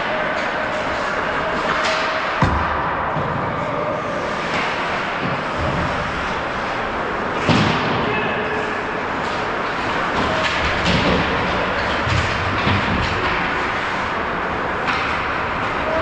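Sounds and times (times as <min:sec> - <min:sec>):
hockey sticks on ice: 0:00.0 - 0:06.8, 0:09.2 - 0:14.2, 0:14.8 - 0:16.0.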